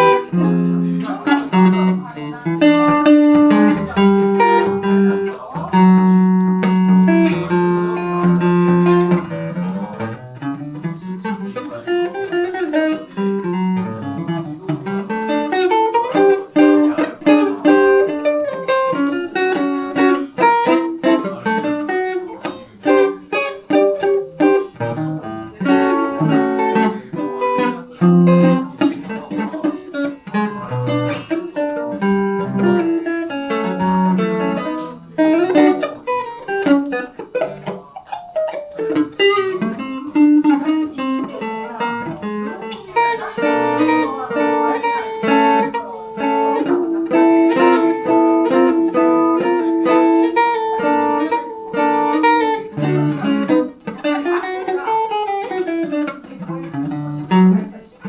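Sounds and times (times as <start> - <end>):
electric guitar blues playing: 0.0 - 58.0.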